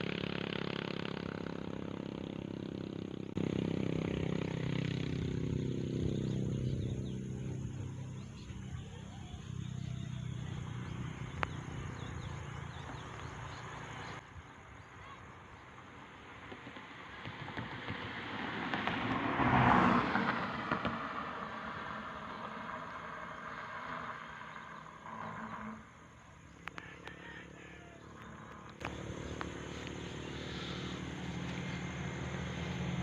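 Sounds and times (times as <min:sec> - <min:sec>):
vehicle passing by: 0:00.0 - 0:14.2, 0:16.2 - 0:33.0
low engine hum: 0:00.0 - 0:14.6, 0:15.2 - 0:33.0.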